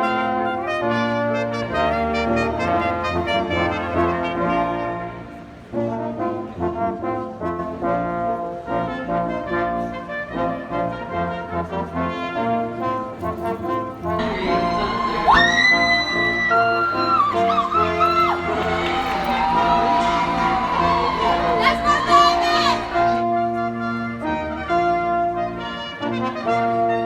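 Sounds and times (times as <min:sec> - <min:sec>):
brass chords: 0:00.0 - 0:27.0.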